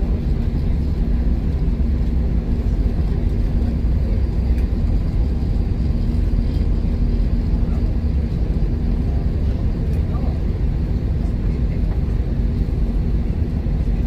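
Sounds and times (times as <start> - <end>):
jet engines idling: 0.0 - 14.0.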